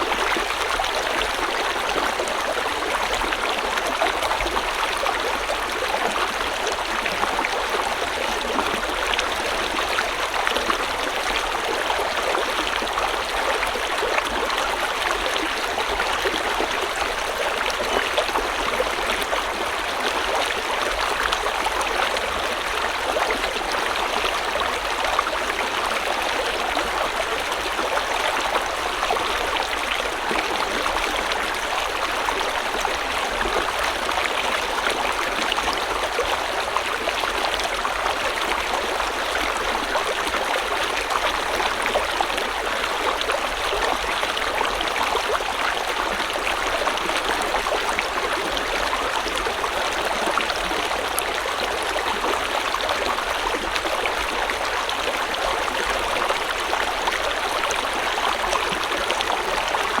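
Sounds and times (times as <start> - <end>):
stream water rushing and burbling: 0.0 - 60.0.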